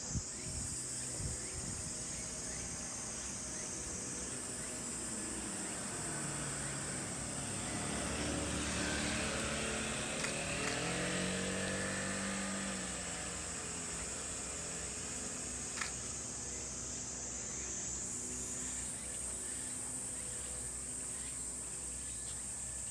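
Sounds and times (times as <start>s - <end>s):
insects droning: 0.0s - 22.9s
vehicle engine hum: 0.1s - 22.9s.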